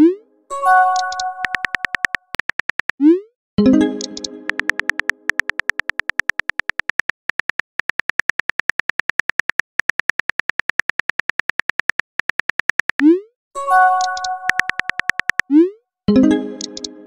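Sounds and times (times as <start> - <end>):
keyboard click sound effects: 0.0 - 17.0.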